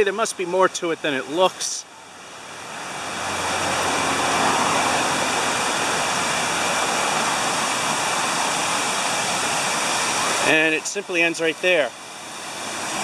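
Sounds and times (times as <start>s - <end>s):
water rushing from waterfall: 0.0s - 13.0s.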